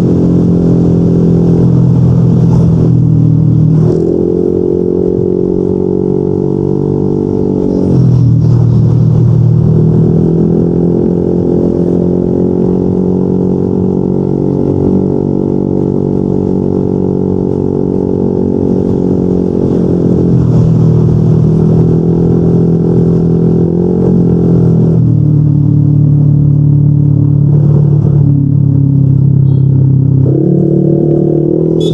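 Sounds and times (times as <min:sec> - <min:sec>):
scooter engine droning while riding: 0:00.0 - 0:31.9.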